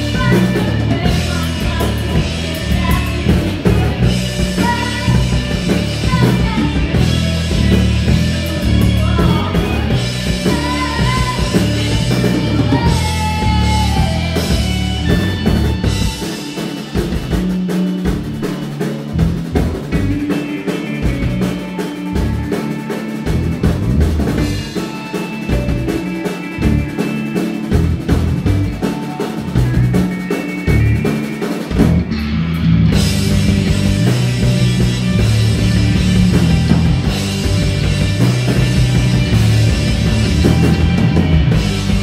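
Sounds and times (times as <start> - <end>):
drum kit: 0.0 - 42.0
electric bass: 0.0 - 42.0
electric guitars: 0.0 - 42.0.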